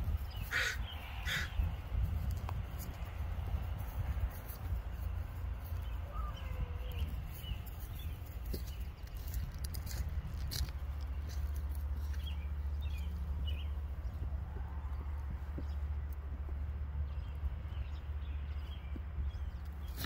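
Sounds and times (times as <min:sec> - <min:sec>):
low rumble of wind: 0:00.0 - 0:20.0.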